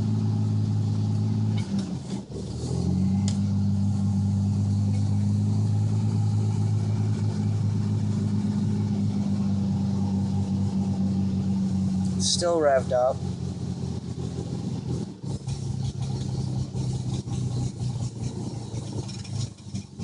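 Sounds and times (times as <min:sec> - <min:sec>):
engine high idle: 0:00.0 - 0:20.0.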